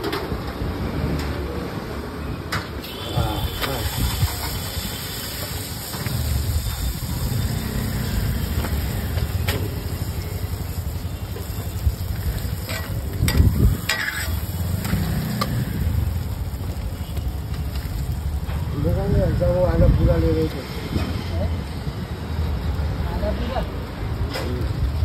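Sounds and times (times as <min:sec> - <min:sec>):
street noise rumble: 0:00.0 - 0:25.0.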